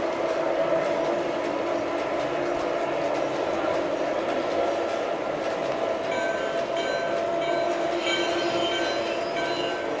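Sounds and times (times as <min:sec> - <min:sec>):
model train humming: 0:00.0 - 0:10.0.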